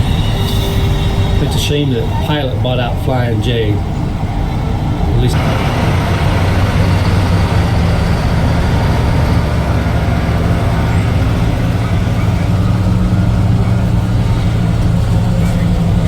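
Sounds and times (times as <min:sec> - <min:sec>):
engine drone and road noise: 0:00.0 - 0:16.0.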